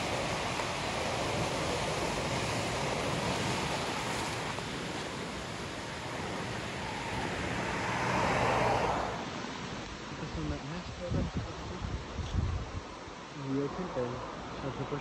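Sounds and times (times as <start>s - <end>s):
fast-flowing stream water: 0.0s - 13.3s.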